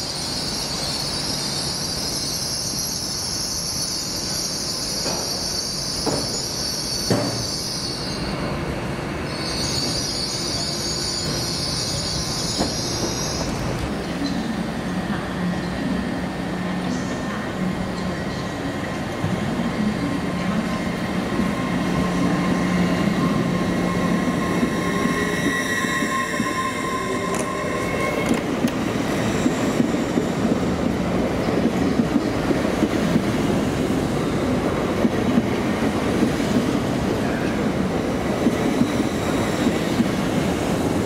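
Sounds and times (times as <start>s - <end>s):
train wheels rumbling: 4.9s - 41.0s.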